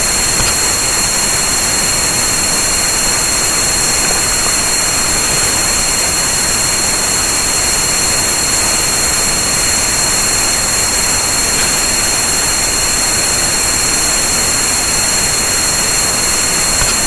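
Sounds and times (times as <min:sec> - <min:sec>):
steady hiss of noise: 0:00.0 - 0:17.0
thin high steady tones: 0:00.0 - 0:17.0.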